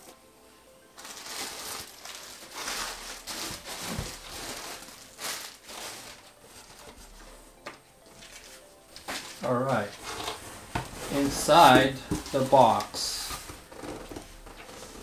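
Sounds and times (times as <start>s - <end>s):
plastic air pillows crinkling: 0.9s - 7.3s, 8.0s - 15.0s.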